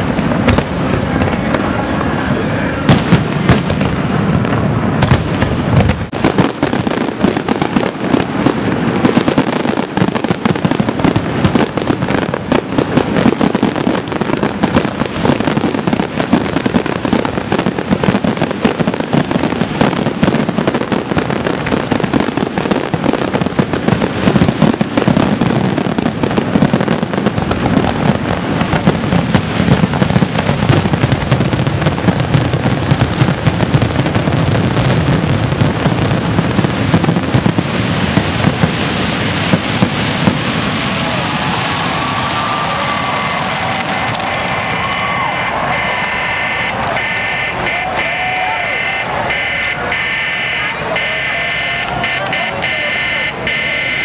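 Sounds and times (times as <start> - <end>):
firework crackling: 0.0 - 54.0.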